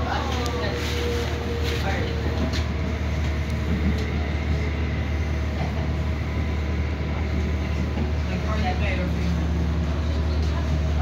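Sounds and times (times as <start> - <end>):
low train rumble: 0.0 - 11.0
train running on track: 0.0 - 11.0.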